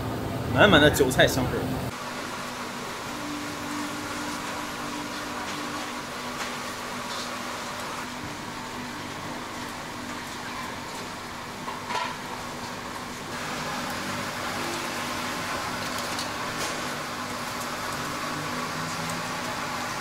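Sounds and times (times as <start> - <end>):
food sizzling in hot oil: 1.9 - 20.0.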